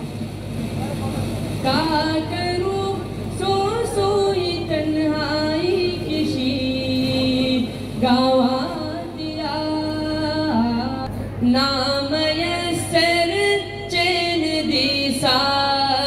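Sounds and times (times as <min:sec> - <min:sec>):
boy singing into a microphone: 0:01.6 - 0:16.0.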